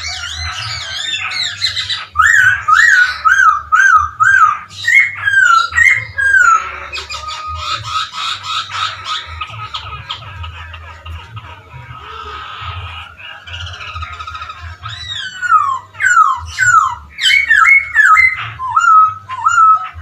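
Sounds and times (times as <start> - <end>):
laughingthrush whistled song: 0.0 - 10.2, 12.0 - 20.0
bird chattering: 0.0 - 20.0.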